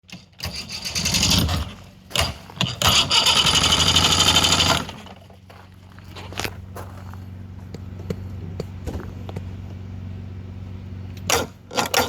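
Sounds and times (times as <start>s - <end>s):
boat engine starting and idling: 0.0s - 9.8s, 10.7s - 12.0s.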